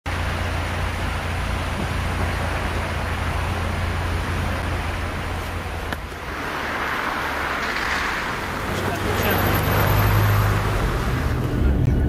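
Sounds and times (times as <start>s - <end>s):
tyres hissing on wet road: 0.1s - 11.7s
low traffic rumble: 0.1s - 12.0s.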